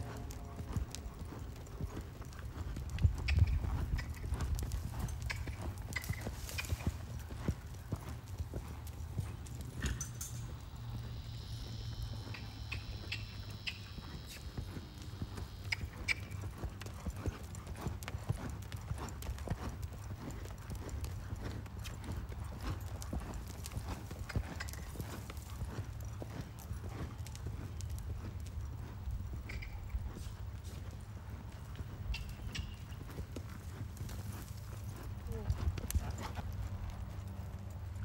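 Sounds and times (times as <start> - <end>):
horse hoofbeats cantering on sand: 0.0 - 38.0.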